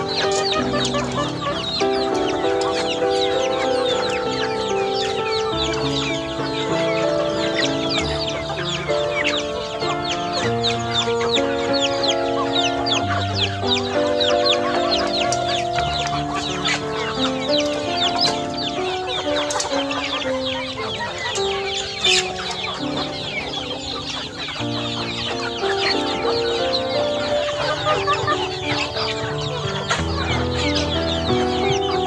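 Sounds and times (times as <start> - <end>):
background music of held notes: 0.0 - 32.0
chickens clucking: 0.0 - 32.0
chicks cheeping: 0.0 - 32.0.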